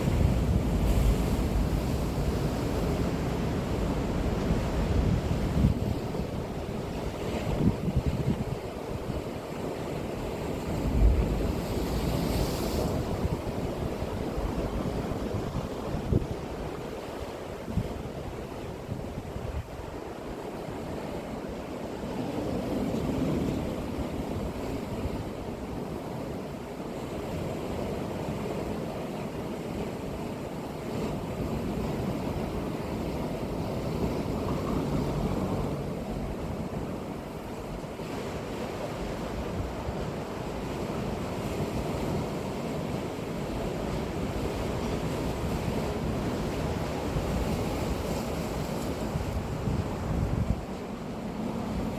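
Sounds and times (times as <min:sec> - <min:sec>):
sea waves breaking on beach: 0:00.0 - 0:51.9.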